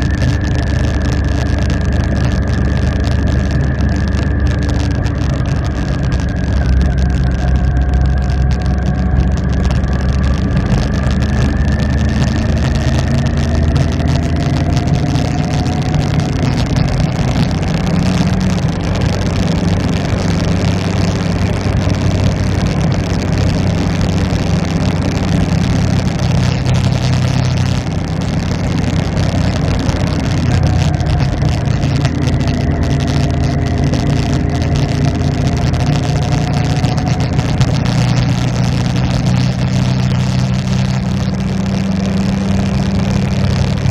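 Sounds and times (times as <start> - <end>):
motorcycle engine running: 0.0 - 43.9
steady rushing noise: 0.0 - 43.9.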